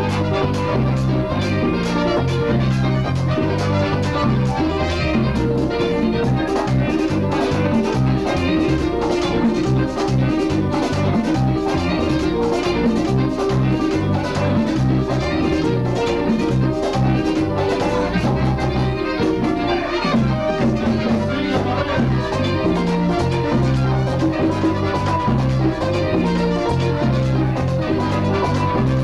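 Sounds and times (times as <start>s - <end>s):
merengue band playing: 0.0s - 29.0s
repeating bass line: 0.0s - 29.0s.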